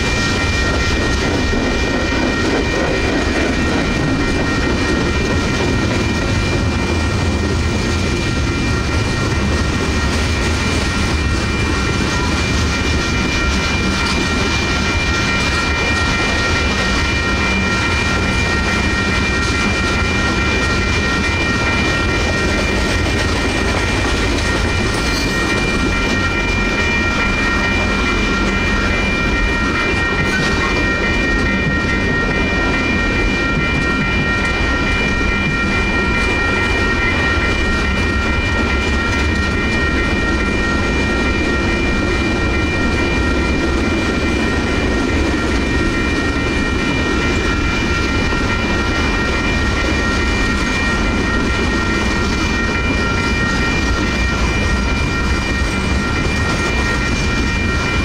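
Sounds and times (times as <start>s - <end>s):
crossing bells ringing: 0.0s - 58.0s
freight train wheels clacking: 0.0s - 58.0s.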